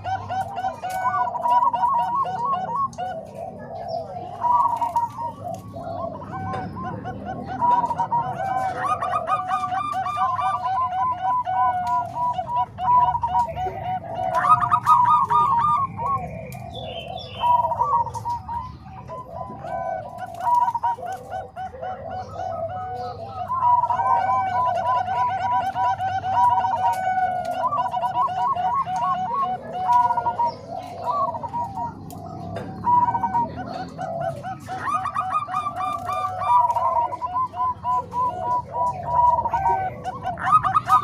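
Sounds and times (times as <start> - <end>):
doves cooing: 0.0 - 41.0.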